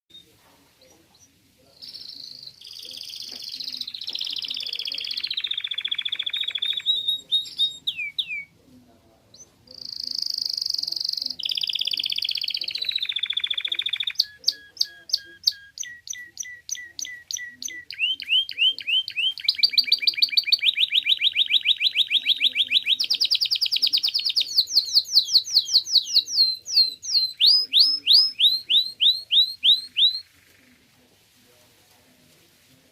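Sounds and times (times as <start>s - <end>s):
canary singing: 0.1s - 8.6s, 9.3s - 30.9s.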